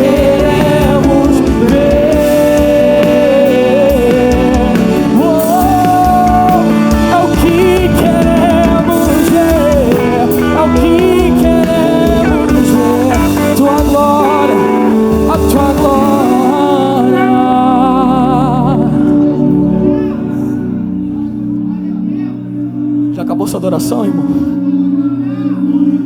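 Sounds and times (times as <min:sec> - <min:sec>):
gospel band with drums: 0:00.0 - 0:21.7
person singing long notes: 0:00.0 - 0:26.0.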